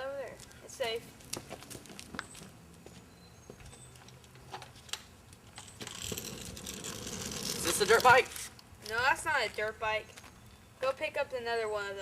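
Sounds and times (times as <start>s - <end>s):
faint footsteps: 0.3s - 4.8s, 5.4s - 10.7s.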